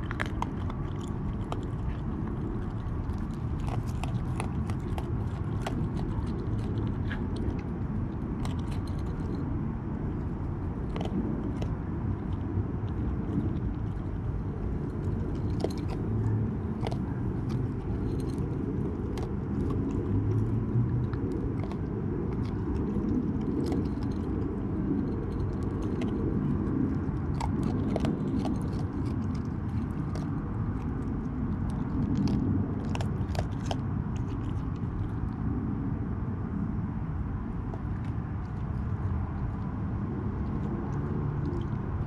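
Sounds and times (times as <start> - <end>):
raccoon crunching dry kibble: 0.0 - 42.0
steady low rumble: 0.0 - 42.0.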